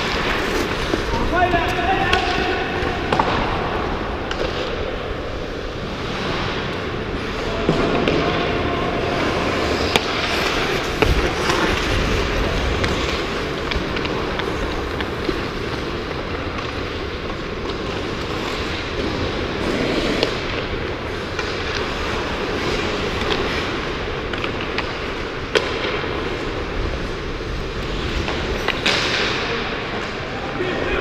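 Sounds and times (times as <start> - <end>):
sharp clacks of sticks and pucks: 0.0 - 31.0
skate blades on ice: 0.0 - 31.0.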